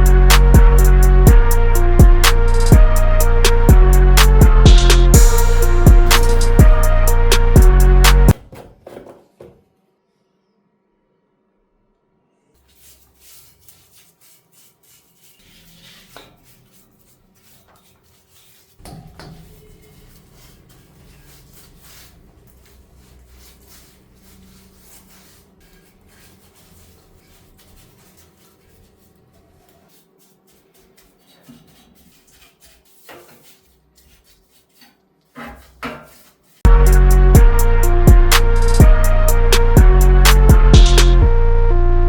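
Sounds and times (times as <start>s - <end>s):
rubbing and scraping: 0.0s - 9.2s, 12.6s - 41.2s.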